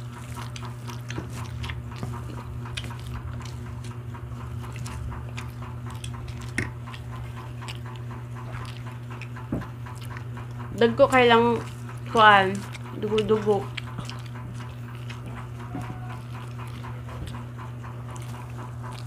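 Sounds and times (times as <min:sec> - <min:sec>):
eating clicks and crackles: 0:00.0 - 0:19.0
people chewing food: 0:00.0 - 0:19.0
steady low hum: 0:00.0 - 0:19.0.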